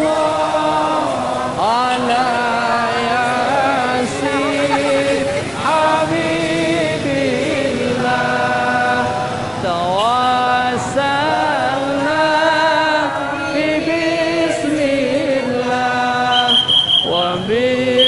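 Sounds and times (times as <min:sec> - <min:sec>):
devotional chant in long notes: 0:00.0 - 0:18.0.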